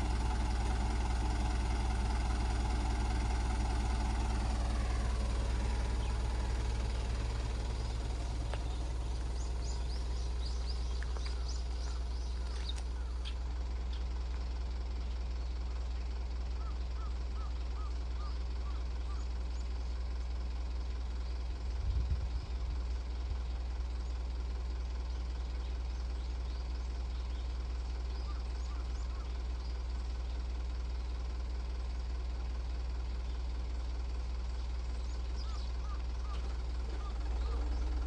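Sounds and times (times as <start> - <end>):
birds chirping: 0.0 - 20.2, 22.8 - 32.3, 33.0 - 38.0
vehicle engine idling: 0.0 - 38.0.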